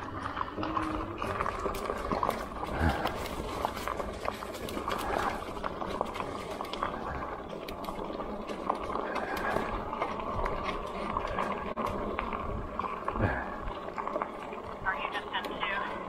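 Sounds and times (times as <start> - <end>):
bike tires crunching on trail: 0.0 - 16.0
small clicks and ticks from bike: 0.0 - 16.0.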